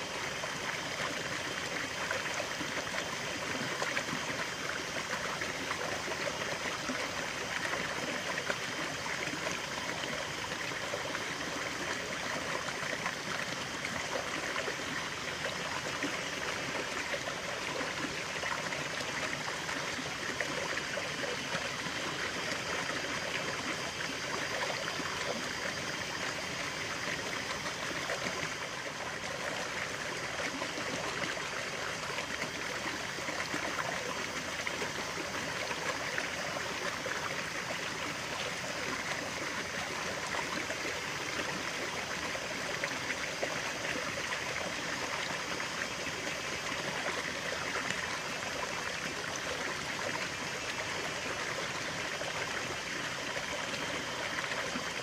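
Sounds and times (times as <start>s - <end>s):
stream running over stones: 0.0s - 55.0s.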